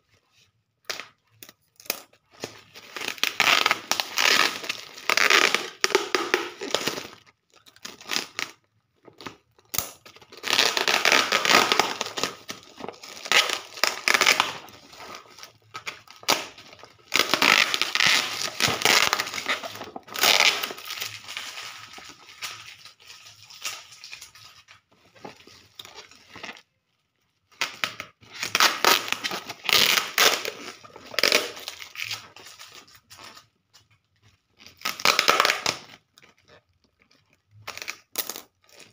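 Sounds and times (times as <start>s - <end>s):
bubble wrap crinkling: 0.0s - 38.9s.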